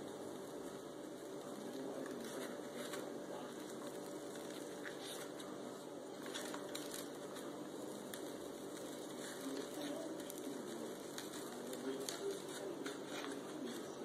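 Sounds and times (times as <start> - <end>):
grains pattering on sheet pan: 0.0 - 14.0.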